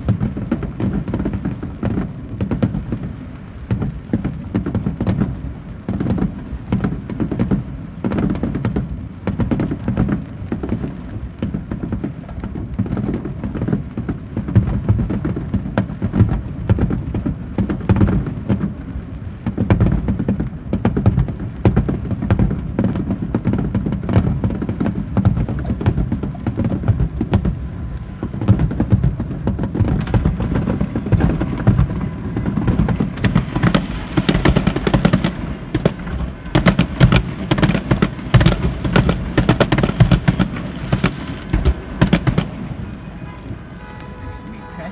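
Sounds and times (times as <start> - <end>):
fireworks booming and crackling: 0.0 - 44.9.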